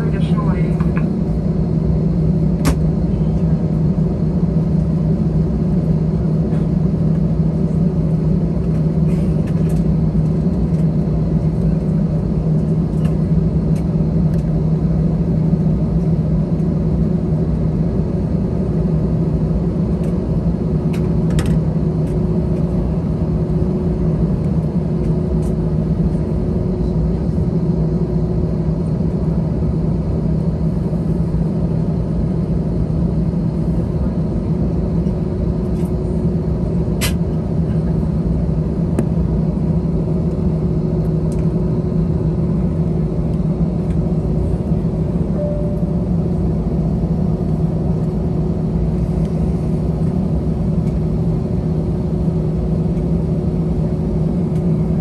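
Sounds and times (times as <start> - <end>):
aircraft cabin engine rumble: 0.0 - 55.0.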